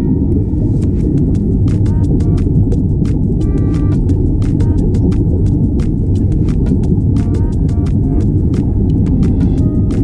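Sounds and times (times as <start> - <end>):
underwater low rumble: 0.0 - 10.0.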